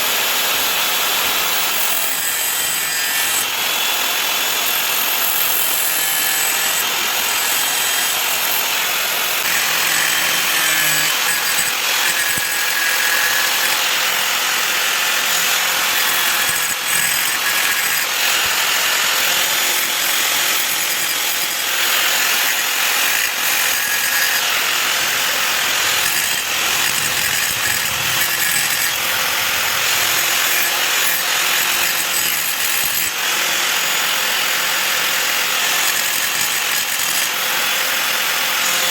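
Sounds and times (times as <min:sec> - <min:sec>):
power tool grinding steel: 0:00.0 - 0:38.9.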